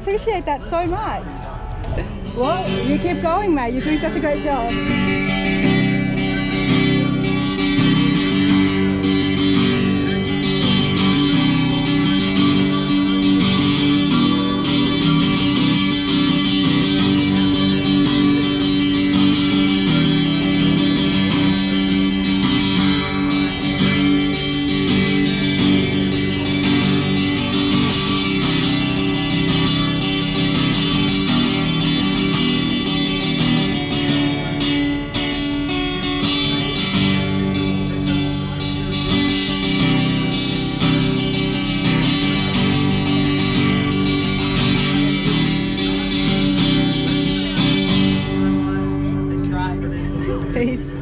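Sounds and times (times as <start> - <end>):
amplified acoustic guitar tune: 0.0 - 51.0.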